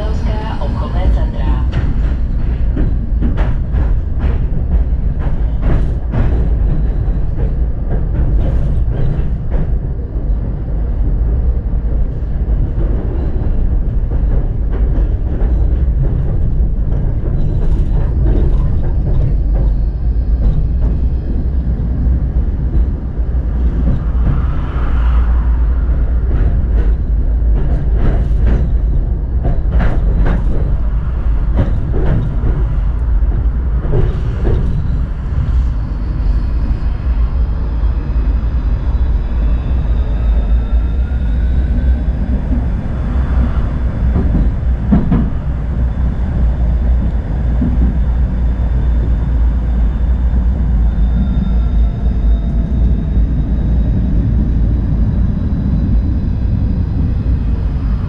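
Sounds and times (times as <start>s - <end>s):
tram rumbling along track: 0.0s - 58.0s
wheels clacking on rails: 0.0s - 58.0s.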